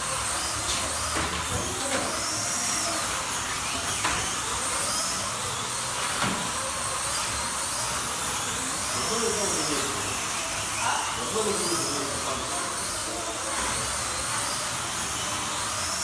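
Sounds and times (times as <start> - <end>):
slot car motors whining: 0.0 - 16.0.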